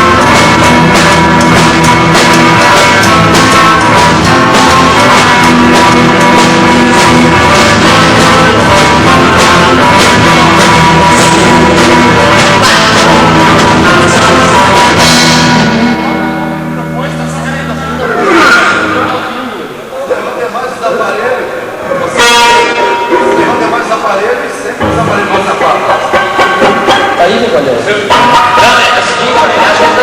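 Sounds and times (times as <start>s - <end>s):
rock band playing live: 0.0s - 19.8s, 24.8s - 30.0s.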